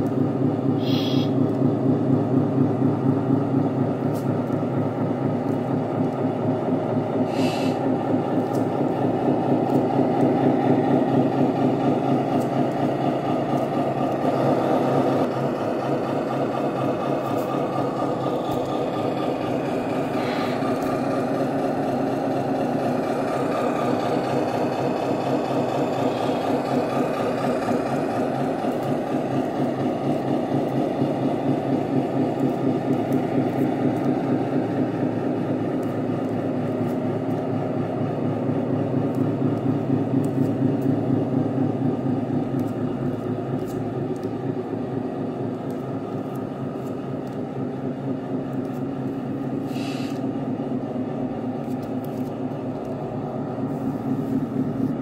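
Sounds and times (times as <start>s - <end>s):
simulated diesel truck engine idling: 0.0s - 51.6s, 52.3s - 55.0s.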